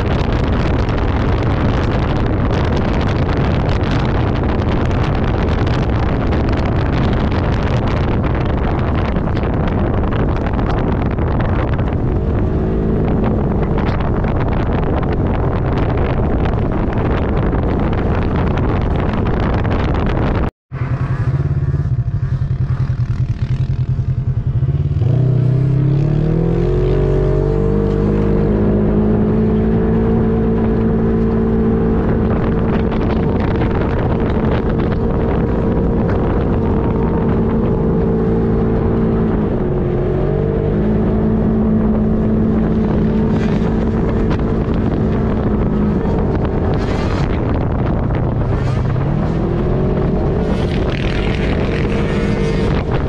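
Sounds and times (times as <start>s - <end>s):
off-road vehicle engine: 0.0s - 53.0s.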